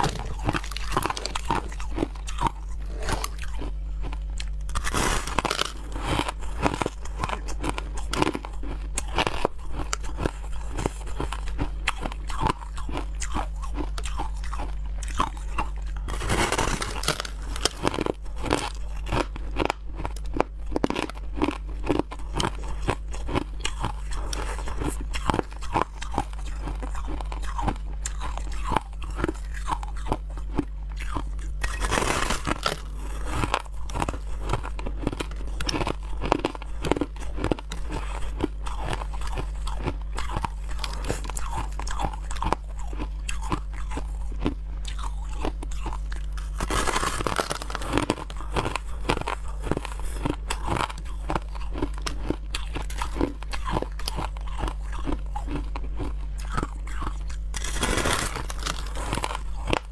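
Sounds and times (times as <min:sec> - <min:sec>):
crushed ice being chewed: 0:00.0 - 0:59.9.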